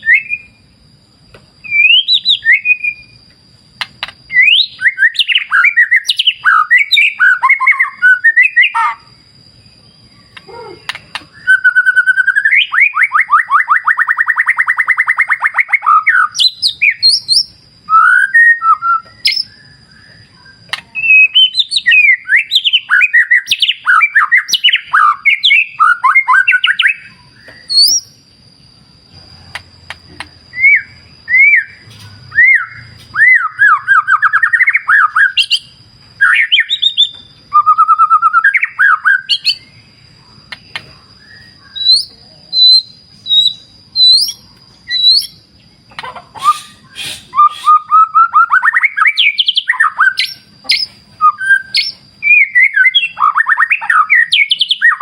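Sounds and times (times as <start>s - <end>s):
bird singing whistles and trills: 0.0s - 0.7s, 1.6s - 55.0s.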